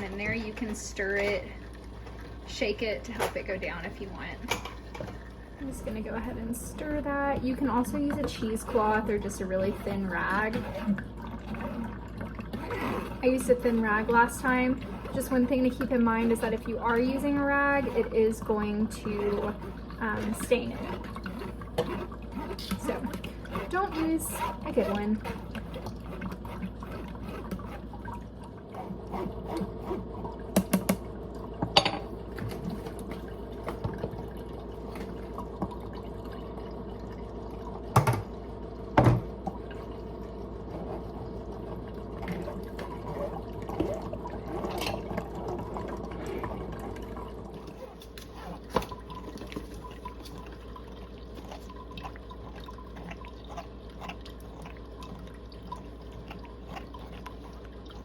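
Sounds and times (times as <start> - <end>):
juice dripping and trickling: 0.0 - 58.0.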